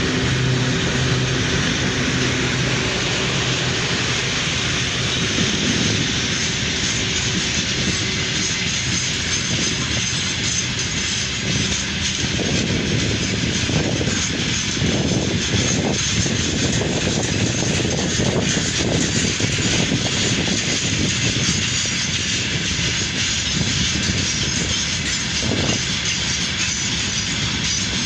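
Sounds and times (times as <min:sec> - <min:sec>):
freight train rumbling past: 0:00.0 - 0:28.0
rushing noise: 0:00.0 - 0:28.0.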